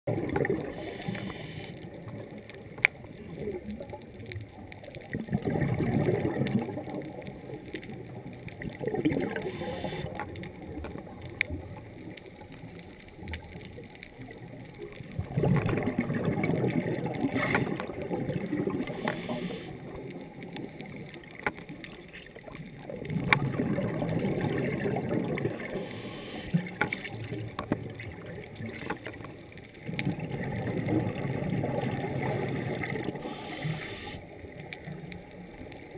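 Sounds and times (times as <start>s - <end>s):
diver's bubbles gurgling underwater: 0.1s - 35.9s.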